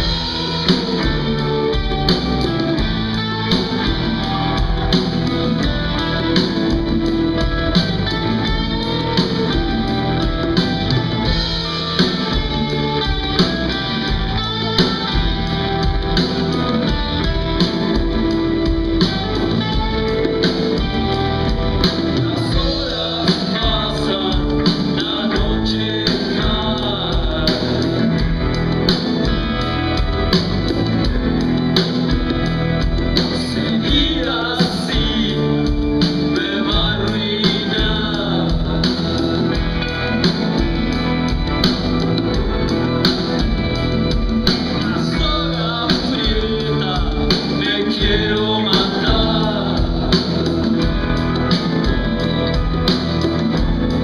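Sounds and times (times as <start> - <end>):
person singing: 0.0 - 29.4, 33.2 - 41.4, 44.2 - 54.0
drums: 0.0 - 54.0
electric guitar: 0.0 - 54.0.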